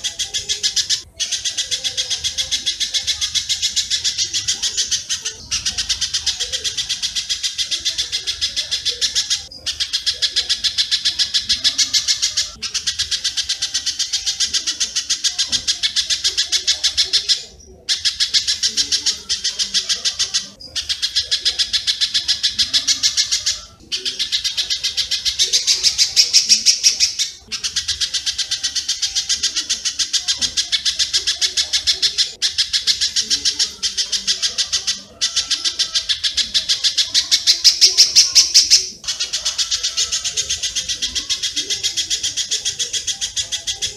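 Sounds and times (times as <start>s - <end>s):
sharp high bird chips: 0.0s - 43.9s.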